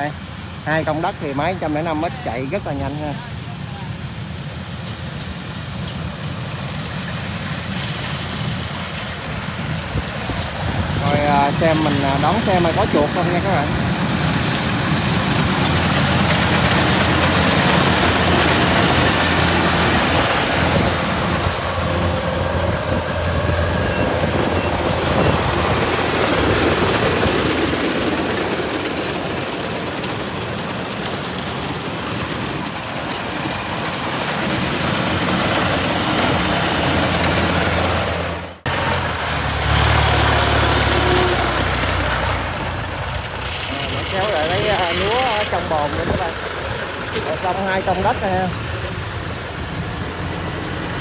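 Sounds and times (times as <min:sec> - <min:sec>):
combine harvester running under load: 0:00.0 - 0:51.0.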